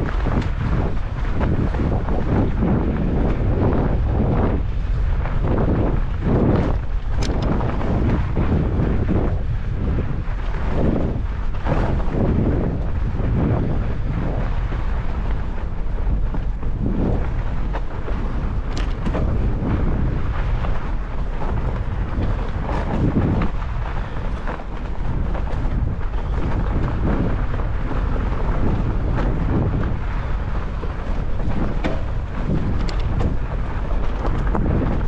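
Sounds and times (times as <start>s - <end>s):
bike clicks and rattles: 0.0s - 35.0s
tyres rolling on snow: 0.0s - 35.0s
wind buffeting microphone: 0.0s - 35.0s.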